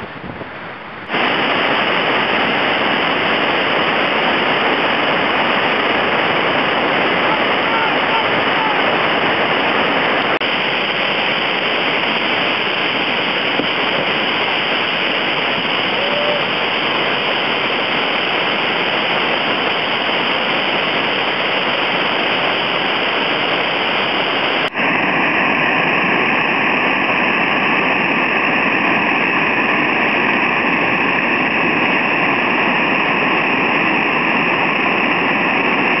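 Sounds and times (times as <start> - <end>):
whitewater pouring over falls: 0.0 - 36.0.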